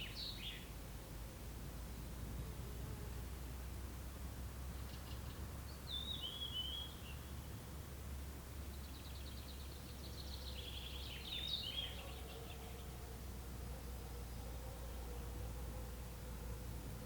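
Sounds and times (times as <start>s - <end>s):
low steady rumble: 0.0s - 17.0s
songbirds singing: 0.0s - 17.0s.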